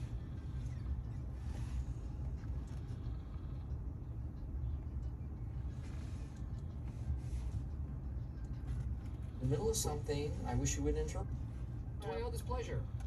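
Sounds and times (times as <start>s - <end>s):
low rumble inside truck cabin: 0.0s - 13.0s.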